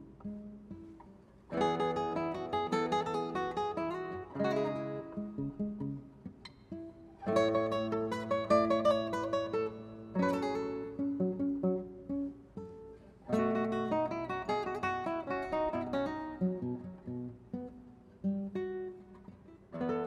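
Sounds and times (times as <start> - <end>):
classical guitar fingerpicking: 0.0 - 20.0.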